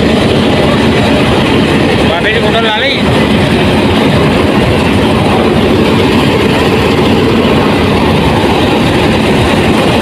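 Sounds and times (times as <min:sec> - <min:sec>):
diesel locomotive engine running: 0:00.0 - 0:10.0.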